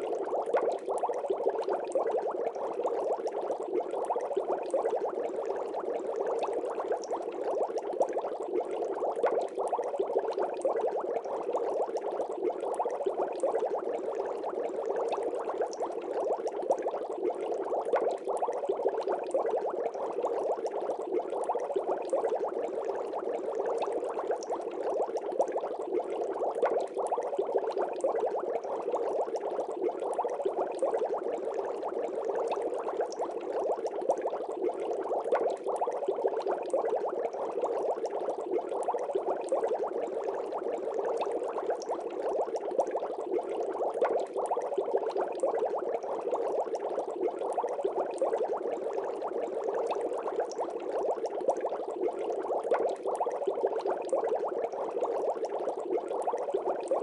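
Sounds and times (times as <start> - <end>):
water bubbling: 0.0 - 57.0.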